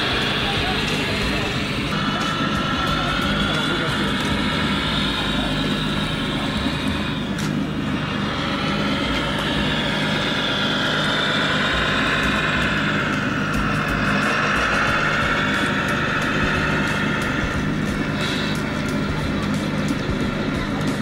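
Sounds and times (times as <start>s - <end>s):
model truck motor hum and whine: 0.0s - 21.0s.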